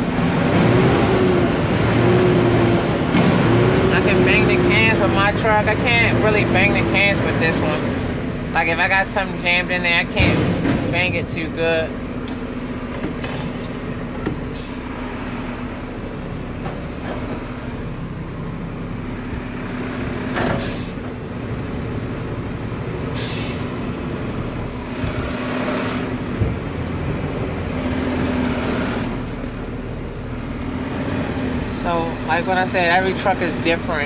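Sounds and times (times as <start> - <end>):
diesel truck engine running: 0.0 - 34.0.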